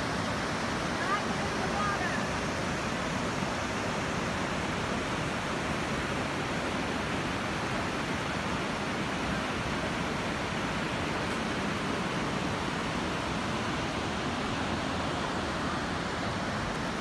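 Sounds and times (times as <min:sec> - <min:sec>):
river rushing through rapids: 0:00.0 - 0:17.0.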